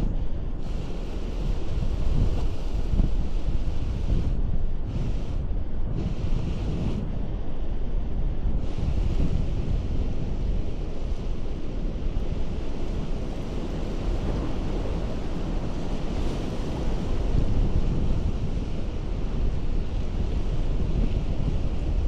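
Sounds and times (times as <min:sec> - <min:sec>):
ocean surf on rocks: 0:00.0 - 0:22.0
wind rumble on microphone: 0:00.0 - 0:22.0.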